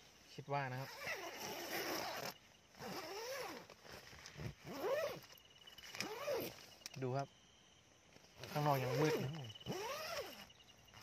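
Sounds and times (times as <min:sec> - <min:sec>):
faint insect trill: 0:00.0 - 0:11.0
rustling hiss: 0:00.0 - 0:11.0.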